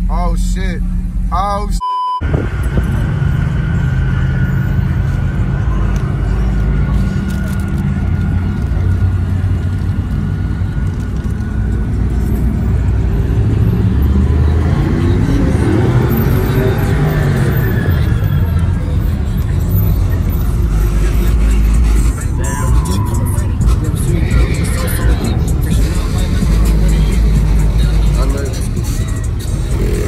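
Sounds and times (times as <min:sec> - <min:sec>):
engine note rising and falling: 0:00.0 - 0:30.0
vehicle engine and tyres rumbling: 0:00.0 - 0:30.0.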